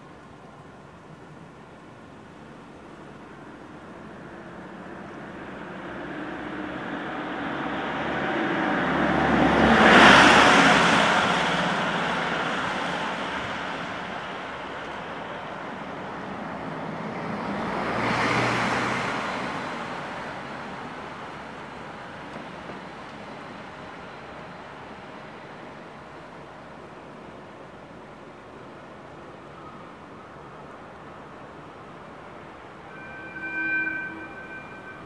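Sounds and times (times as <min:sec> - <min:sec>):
road vehicles passing: 0:00.9 - 0:27.6, 0:30.1 - 0:35.0.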